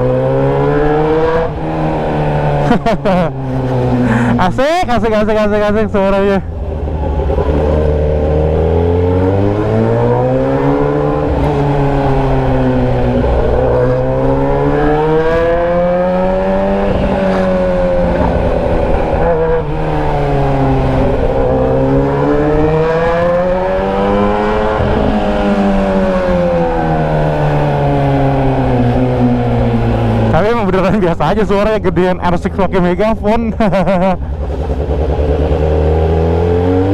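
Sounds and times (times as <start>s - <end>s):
loud motorcycle engine revving: 0.0s - 4.5s, 6.4s - 32.8s, 33.4s - 36.9s.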